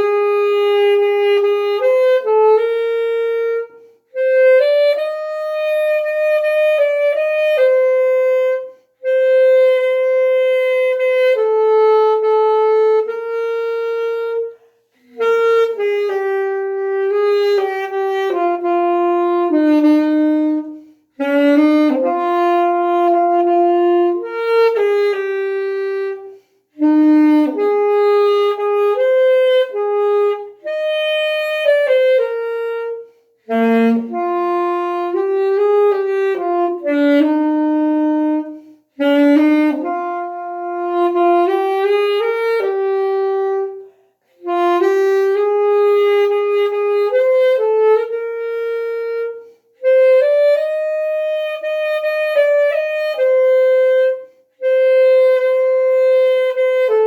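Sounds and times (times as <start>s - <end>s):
solo saxophone melody: 0.0s - 57.0s.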